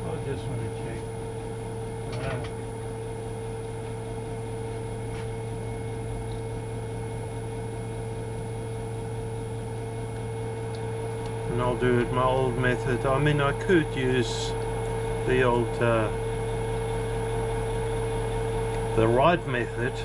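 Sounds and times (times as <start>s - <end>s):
lathe humming: 0.0s - 20.0s.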